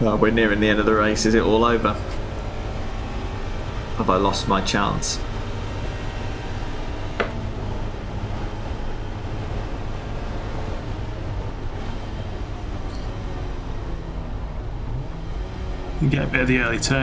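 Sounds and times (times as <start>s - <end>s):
engine and road drone: 0.0s - 17.0s.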